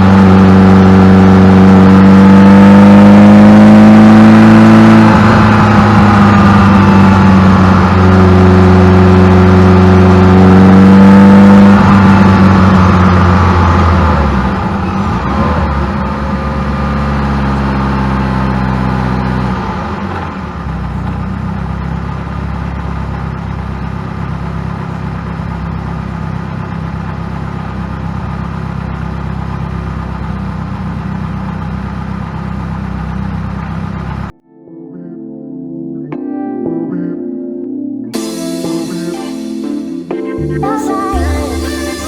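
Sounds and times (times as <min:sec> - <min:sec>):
car engine running: 0:00.0 - 0:34.3.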